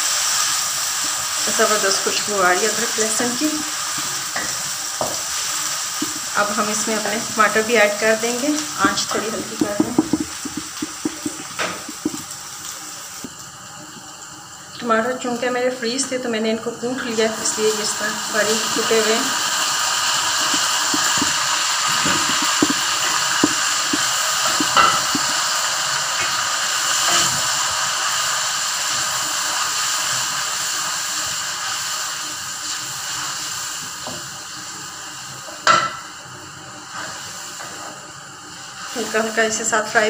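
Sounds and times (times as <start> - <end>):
tomatoes sizzling in hot oil: 0.0 - 40.0.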